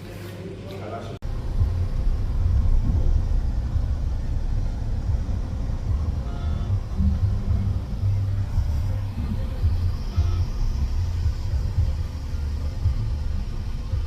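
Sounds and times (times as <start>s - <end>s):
car driving rumble: 1.2s - 14.0s.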